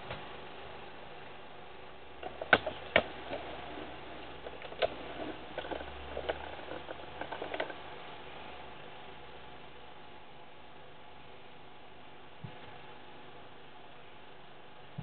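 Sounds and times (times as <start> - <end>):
film soundtrack hiss: 0.0 - 15.0.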